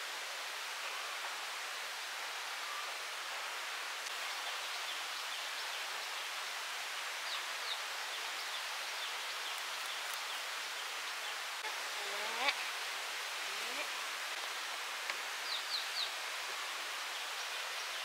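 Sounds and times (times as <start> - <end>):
forest ambience hiss: 0.0 - 18.0.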